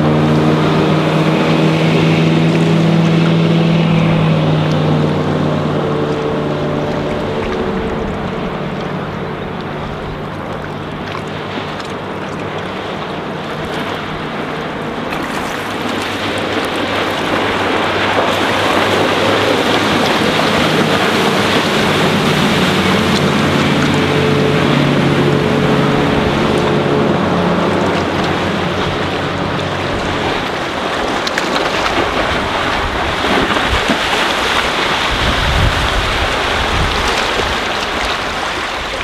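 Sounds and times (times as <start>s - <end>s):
boat engine running: 0.0s - 39.0s
rush of hull and spray: 0.0s - 39.0s.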